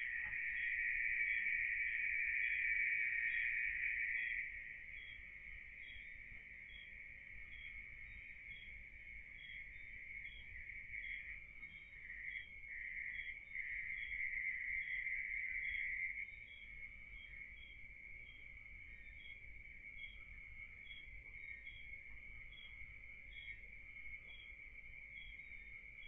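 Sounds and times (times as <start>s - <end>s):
crickets trilling: 0.0s - 26.0s
high insect chirp: 0.0s - 26.0s.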